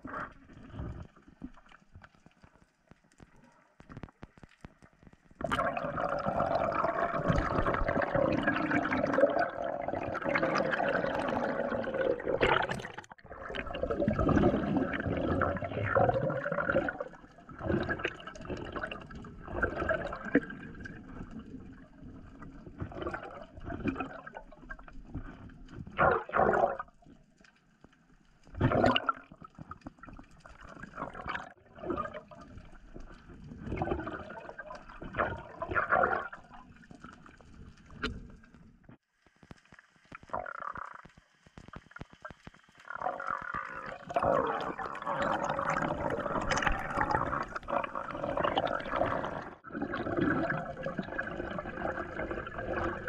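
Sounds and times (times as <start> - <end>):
muffled underwater rushing water: 0.0 - 53.0.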